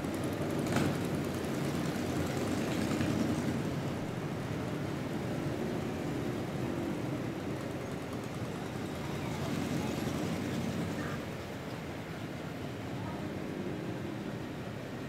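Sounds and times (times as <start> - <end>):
cars passing close by: 0.0 - 12.9.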